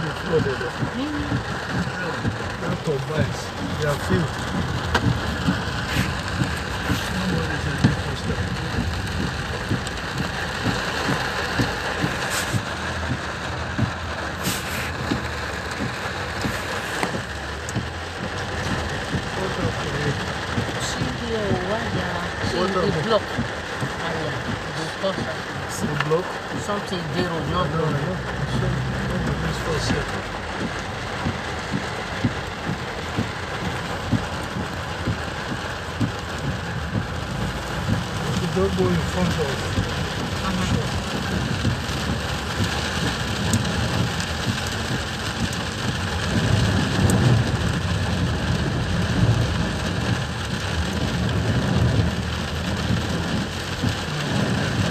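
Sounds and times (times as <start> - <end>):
dull low knocks: 0.0 - 22.6, 28.1 - 54.9
heavy rain on car roof: 0.0 - 54.9.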